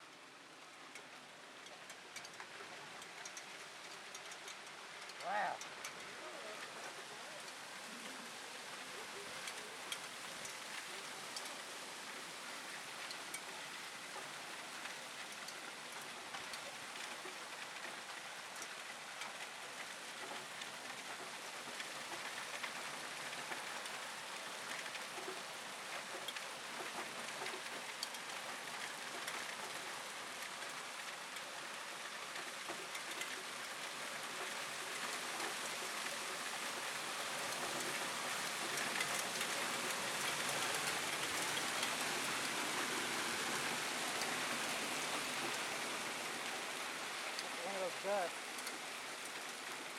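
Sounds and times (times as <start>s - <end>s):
hail and rain pelting down: 0.0s - 49.9s
sharp ticks of hailstones striking: 0.2s - 49.9s.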